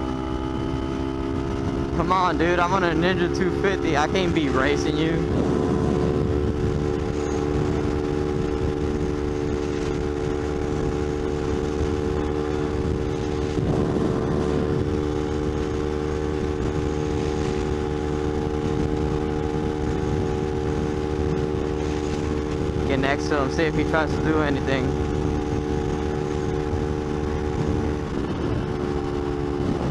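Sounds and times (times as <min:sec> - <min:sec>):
motorcycle engine cruising: 0:00.0 - 0:29.9
wind and road rush: 0:00.0 - 0:29.9.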